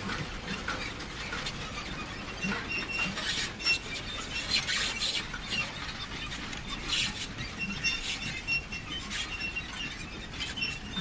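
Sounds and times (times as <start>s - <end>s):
manure spreader scraping: 0.0s - 11.0s
high squeaks: 0.6s - 11.0s.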